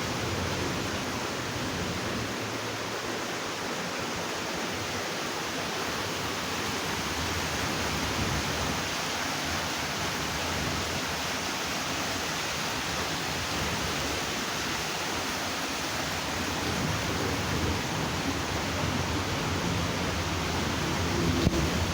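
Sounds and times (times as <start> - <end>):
floodwater rushing roar: 0.0 - 21.9.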